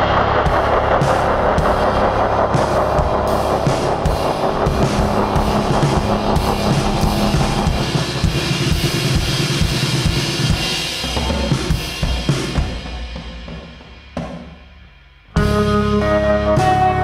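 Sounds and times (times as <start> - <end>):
instrumental rock band playing: 0.0 - 13.6, 15.3 - 17.0
drum and cymbal hits: 0.0 - 17.0.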